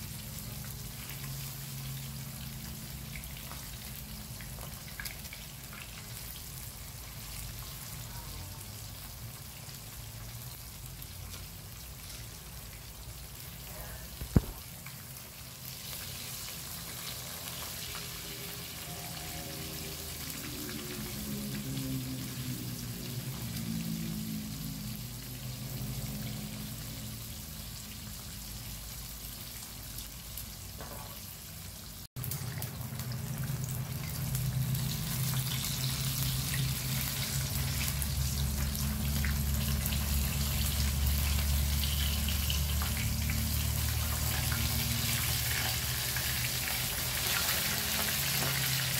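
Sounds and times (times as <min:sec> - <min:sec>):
fish frying in hot oil: 0:00.0 - 0:48.9.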